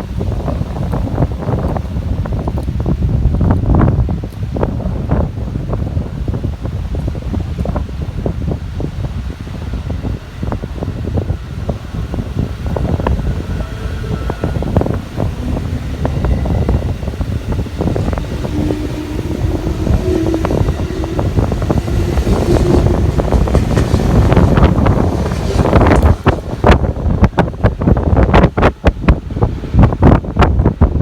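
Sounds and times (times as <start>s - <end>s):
electric train rumbling: 0.0s - 31.0s
wind buffeting microphone: 0.0s - 31.0s.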